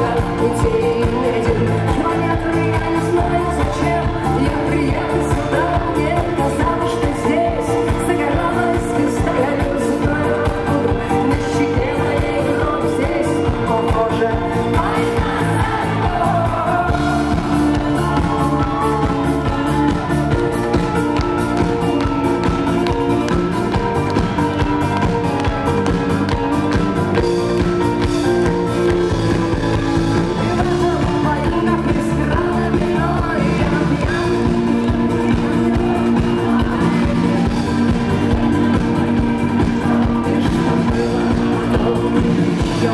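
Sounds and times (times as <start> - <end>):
guitar: 0.0 - 42.9
live rock band playing: 0.0 - 42.9
woman singing: 0.0 - 42.9.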